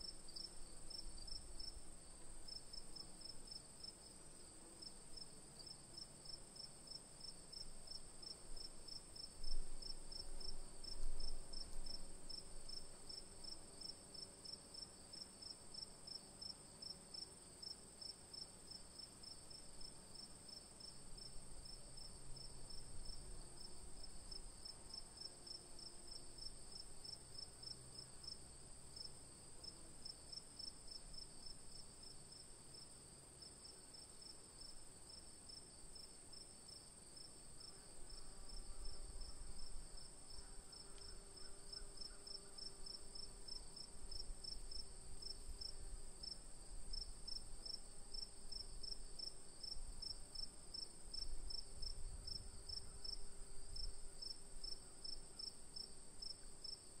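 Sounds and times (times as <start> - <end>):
crickets chirping: 0.0 - 1.9, 2.5 - 57.0.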